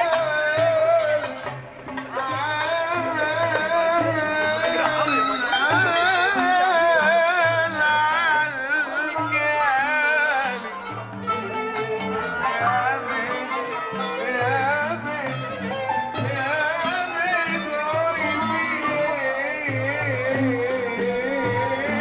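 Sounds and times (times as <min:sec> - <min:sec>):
wavering vibrato melody: 0:00.0 - 0:22.0.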